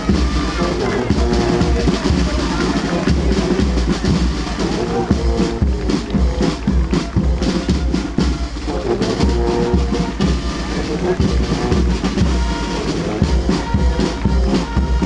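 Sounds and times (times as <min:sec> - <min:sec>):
bass drum and snare beat: 0:00.0 - 0:15.0
crowd chatter: 0:00.0 - 0:15.0
marching music: 0:00.0 - 0:15.0.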